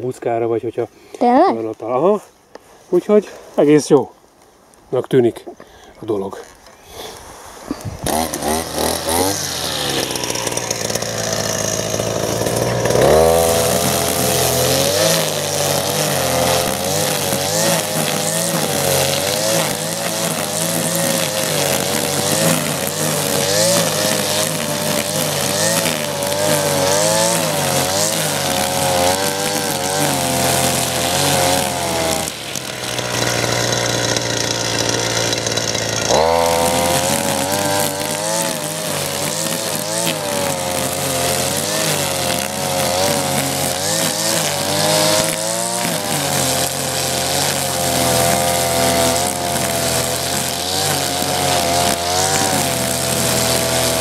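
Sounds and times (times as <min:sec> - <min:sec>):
brush cutter engine running: 0:07.0 - 0:54.0.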